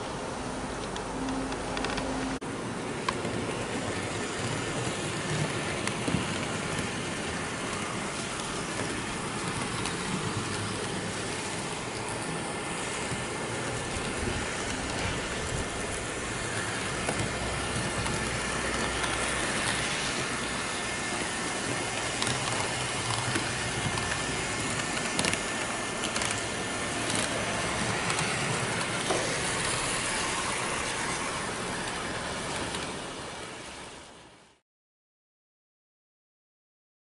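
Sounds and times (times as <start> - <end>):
model train running on track: 0.0 - 34.6.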